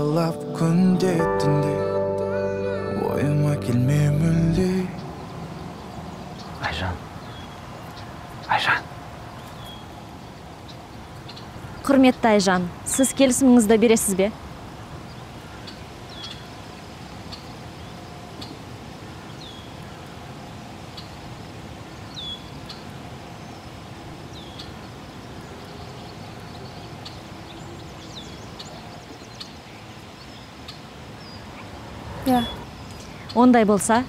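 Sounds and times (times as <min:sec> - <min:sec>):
outdoor background noise: 0:03.1 - 0:34.0.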